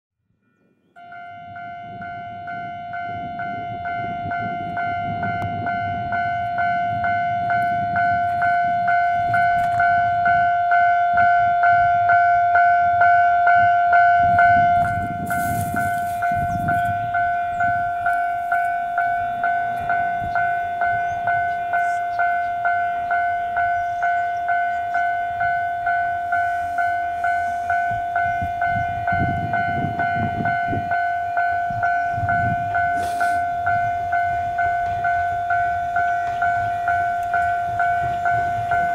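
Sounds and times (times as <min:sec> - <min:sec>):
level crossing warning bell: 0:00.4 - 0:38.9.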